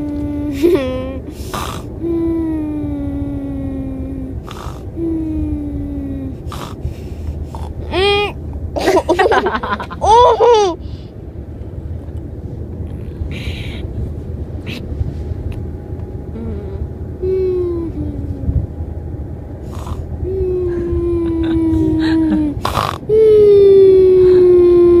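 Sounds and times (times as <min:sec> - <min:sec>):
low rough noise: 0:00.0 - 0:25.0.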